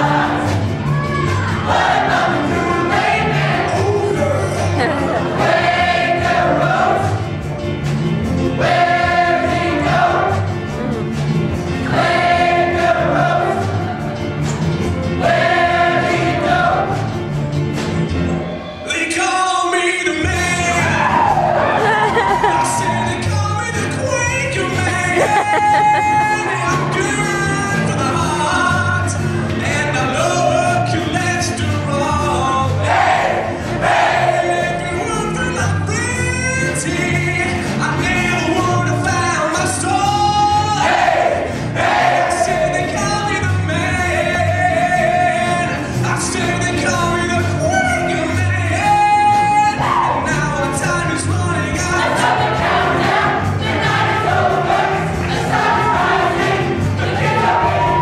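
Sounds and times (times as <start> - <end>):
group of voices singing: 0.0 - 7.3, 8.5 - 10.6, 11.8 - 14.0, 15.2 - 17.2, 20.9 - 23.4, 24.5 - 46.9, 48.0 - 58.0
bass line: 0.0 - 18.6, 20.2 - 58.0.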